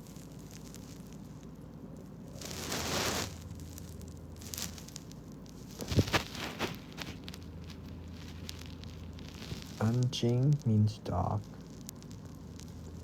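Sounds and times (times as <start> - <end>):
rustling and clicking handling noises: 0.0 - 10.6
steady low hum: 0.0 - 13.0.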